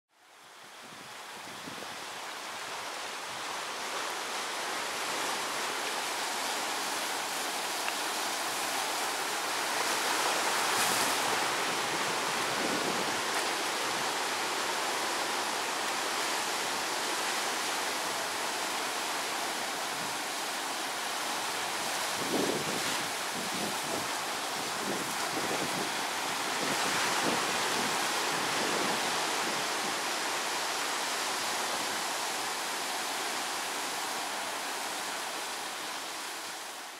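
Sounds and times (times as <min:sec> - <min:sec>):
waves breaking on beach: 0:00.4 - 0:36.9.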